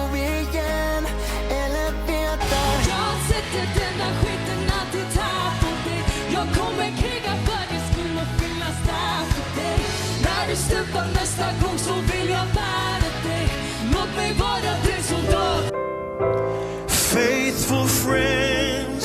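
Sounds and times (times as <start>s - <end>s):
pop song with singer: 0.0s - 19.0s.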